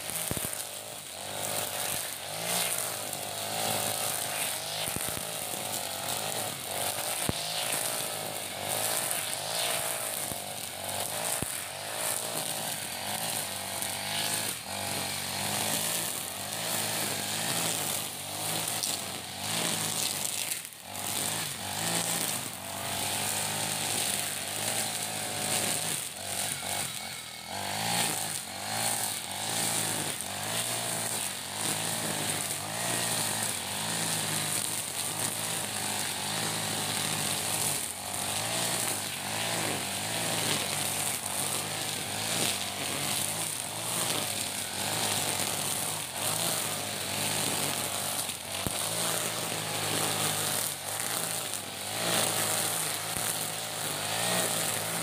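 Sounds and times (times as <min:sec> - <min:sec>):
brush cutter engine running: 0:00.0 - 0:55.0
trimmer line whipping through grass: 0:00.0 - 0:55.0.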